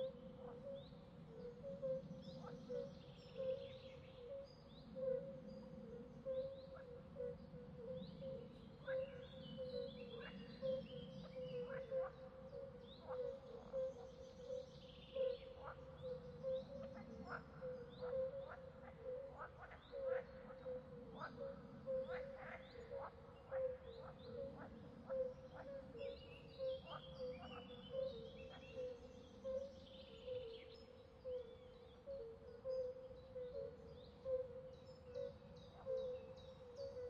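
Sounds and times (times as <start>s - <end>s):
frog chorus: 0.0s - 37.0s.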